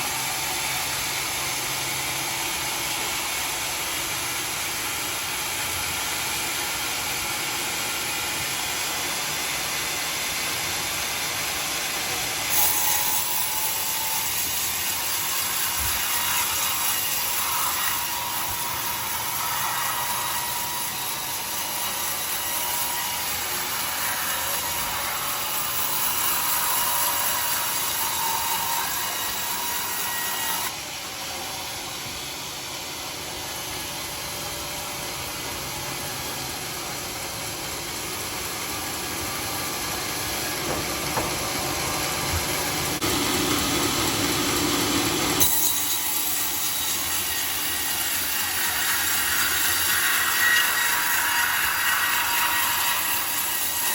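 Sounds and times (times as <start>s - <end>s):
sawmill saw cutting wood: 0.0s - 53.9s.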